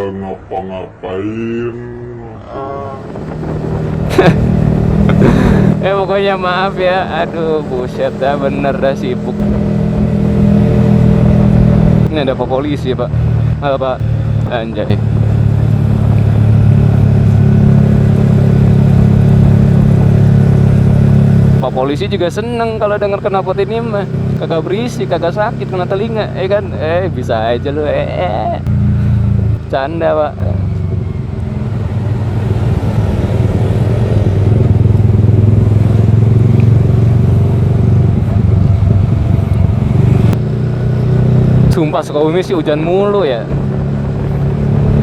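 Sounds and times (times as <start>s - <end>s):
motorcycle engine running: 2.9s - 29.8s, 30.4s - 45.0s.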